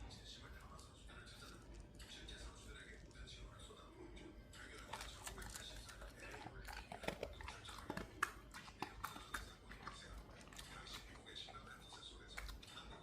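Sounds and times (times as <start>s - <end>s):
dog chewing crunchily: 0.0s - 13.0s.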